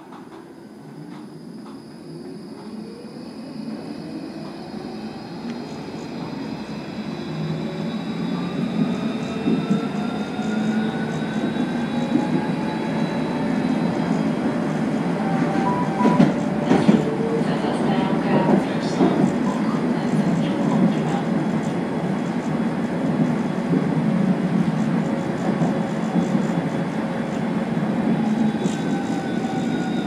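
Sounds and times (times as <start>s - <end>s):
tram wheels running noise: 0.0s - 30.0s.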